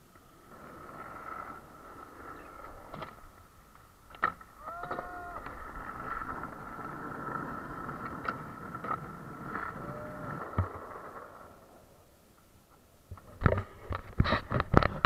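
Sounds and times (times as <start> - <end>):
skateboard clacking on ground: 0.0 - 15.0
skateboard wheels rolling on concrete: 0.0 - 15.0.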